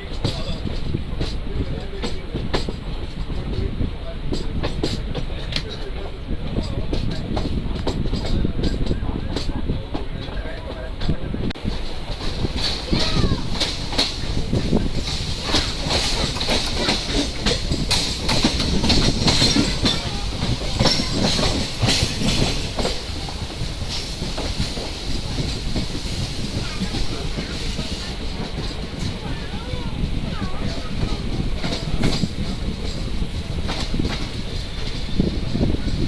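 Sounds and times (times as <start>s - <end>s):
train rumbling: 0.0s - 36.0s
wheels clicking over rail joints: 0.0s - 36.0s.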